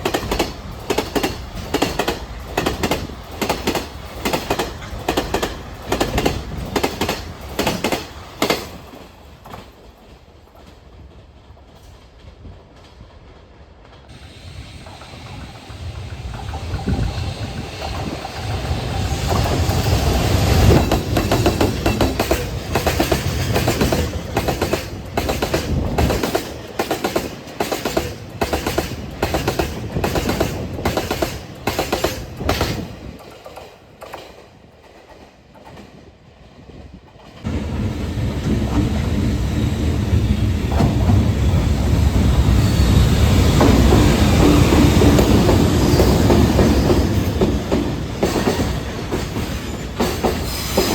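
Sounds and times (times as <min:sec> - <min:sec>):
train wheels clacking over rail joints: 0:00.0 - 0:14.2, 0:14.8 - 0:36.0, 0:37.1 - 0:50.9
loud train rumble: 0:00.0 - 0:50.9.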